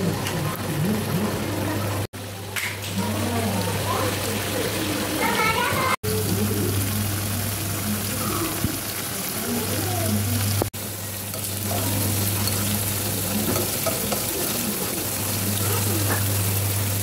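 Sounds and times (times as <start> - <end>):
food bubbling and sizzling in pan: 0.0 - 17.0.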